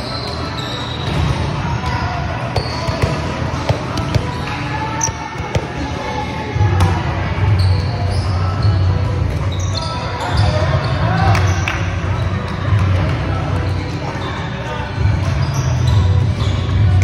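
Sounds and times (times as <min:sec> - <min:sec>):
voices echoing in hall: 0:00.0 - 0:17.0.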